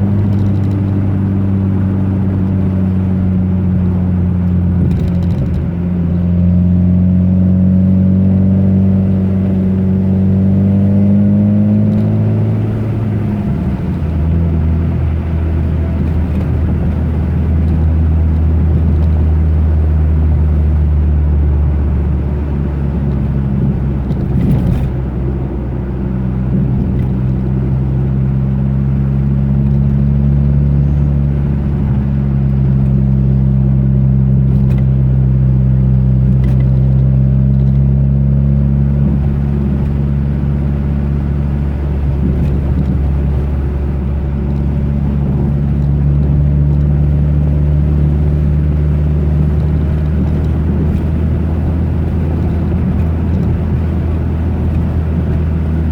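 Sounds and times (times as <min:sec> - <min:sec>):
car engine driving: 0:00.0 - 0:55.9
road noise: 0:00.0 - 0:55.9.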